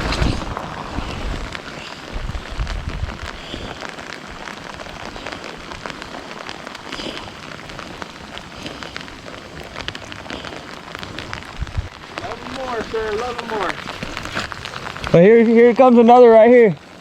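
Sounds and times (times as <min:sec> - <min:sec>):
rain falling: 0:00.0 - 0:17.0
raindrops hitting close by: 0:00.0 - 0:17.0.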